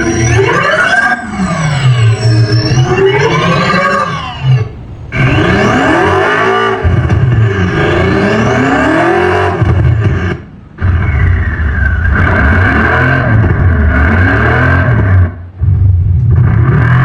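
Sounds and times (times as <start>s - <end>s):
synthetic engine sound revving: 0.0s - 17.0s.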